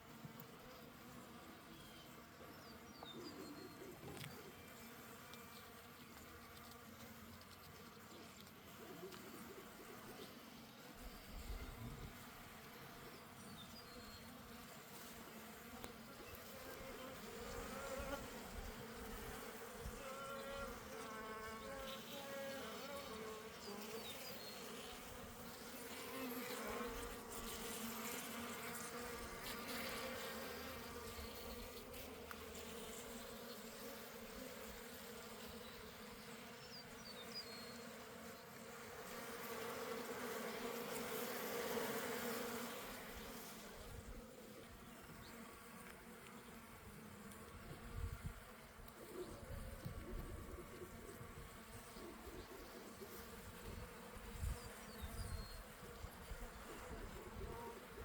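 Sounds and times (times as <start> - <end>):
honeybees buzzing: 0.1 - 58.0.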